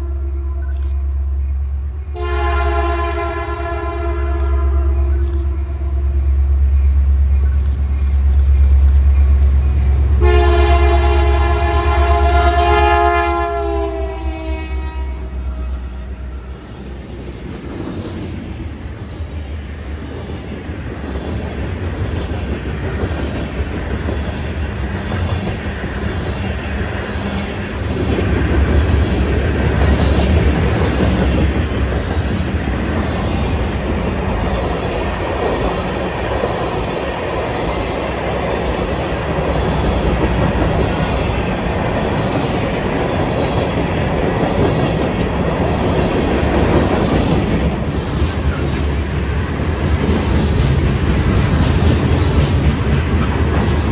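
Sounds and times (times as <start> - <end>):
freight train rumbling by: 0.0 - 53.9.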